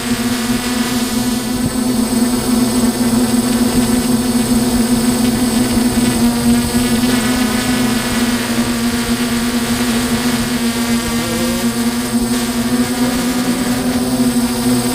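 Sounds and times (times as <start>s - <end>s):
drone motors buzzing: 0.0s - 14.9s.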